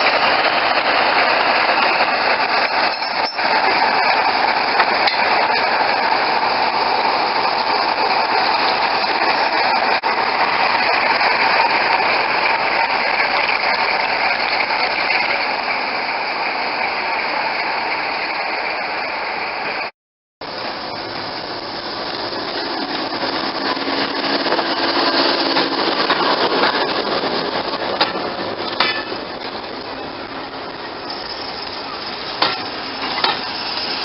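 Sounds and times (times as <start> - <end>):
diesel train running: 0.0 - 34.0.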